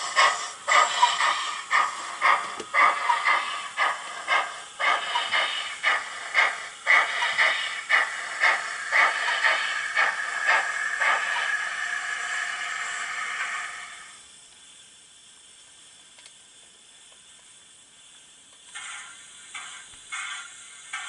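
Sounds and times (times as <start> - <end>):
steady steam hiss: 0.0 - 21.0
steam locomotive exhaust chuffs: 0.0 - 21.0.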